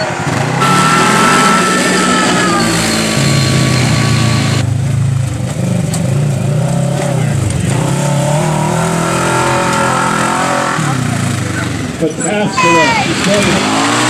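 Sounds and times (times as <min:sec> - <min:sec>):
utv engine revving: 0:00.0 - 0:14.0.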